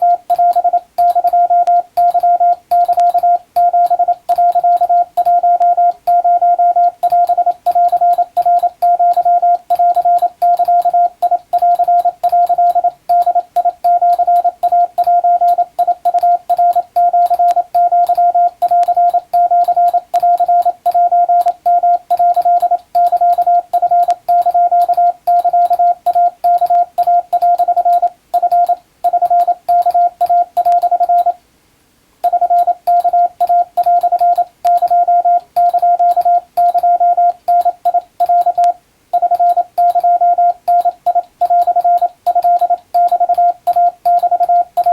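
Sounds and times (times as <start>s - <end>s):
morse code tone: 0.0s - 31.4s, 32.2s - 44.9s.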